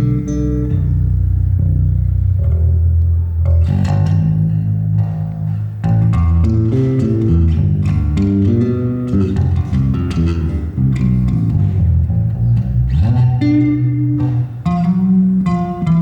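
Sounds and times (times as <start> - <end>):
solo bass guitar: 0.0 - 16.0.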